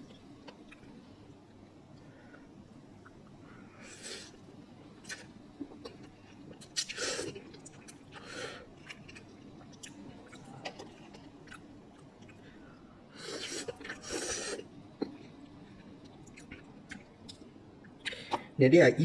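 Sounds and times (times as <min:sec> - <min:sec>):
person chewing noodles: 0:01.9 - 0:12.6, 0:13.2 - 0:18.5.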